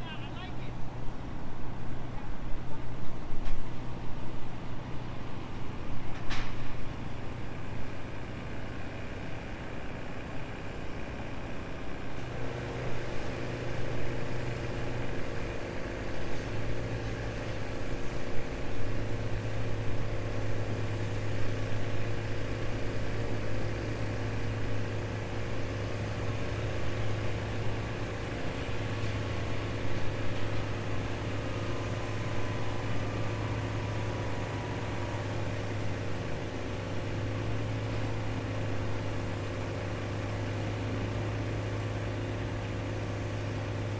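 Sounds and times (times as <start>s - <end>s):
boat engine running at low speed: 0.0s - 43.9s.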